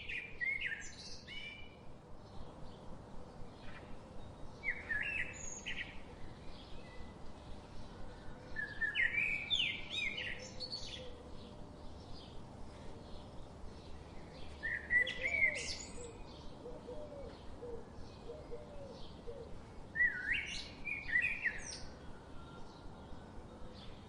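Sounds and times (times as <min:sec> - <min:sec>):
loud bird song phrases: 0:00.0 - 0:24.0
wild birds chirping: 0:00.0 - 0:24.0.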